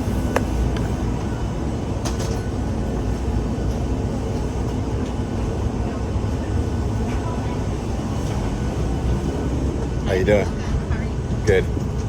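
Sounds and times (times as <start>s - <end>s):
jet airliner rumble: 0.0s - 12.0s.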